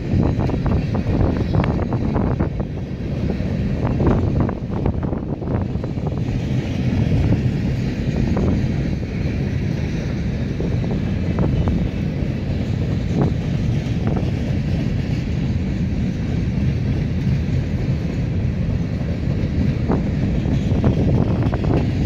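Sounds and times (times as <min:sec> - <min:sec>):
freight train rumbling: 0:00.0 - 0:22.0
wind buffeting microphone: 0:00.0 - 0:22.0.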